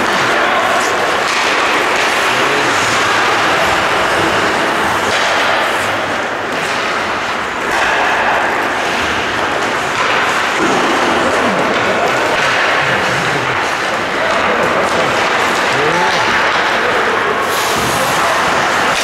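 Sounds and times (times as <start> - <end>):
ice hockey game crowd noise: 0.0 - 19.0.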